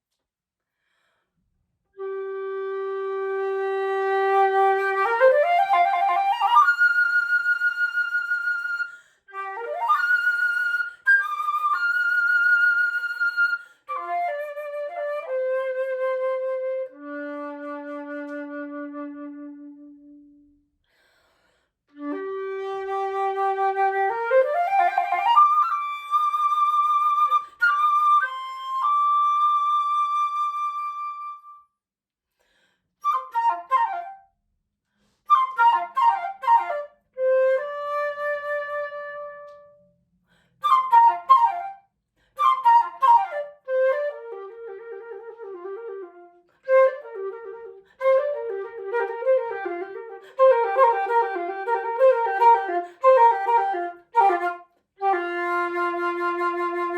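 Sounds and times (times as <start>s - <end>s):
solo flute playing: 2.0s - 20.5s, 21.9s - 31.7s, 33.0s - 34.3s, 35.2s - 39.9s, 40.6s - 56.9s.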